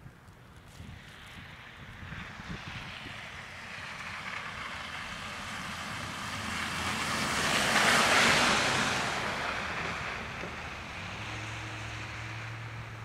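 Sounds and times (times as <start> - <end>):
car tyres hissing past: 0.6 - 13.0.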